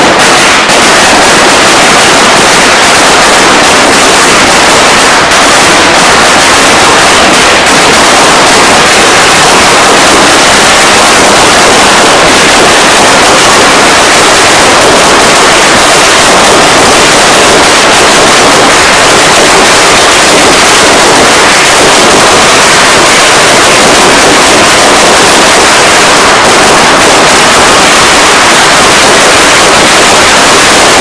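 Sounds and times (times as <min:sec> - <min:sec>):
firecrackers crackling rapidly: 0:00.0 - 0:31.0.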